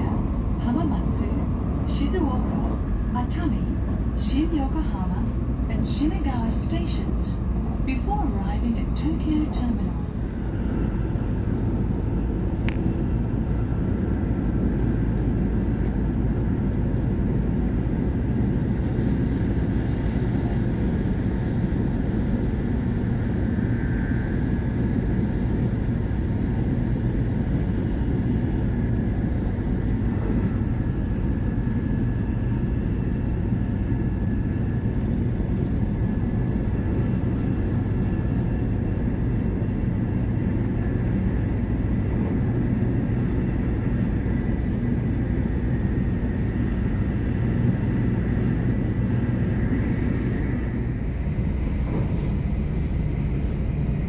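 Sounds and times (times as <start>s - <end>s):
train cabin rumble: 0.0s - 54.0s.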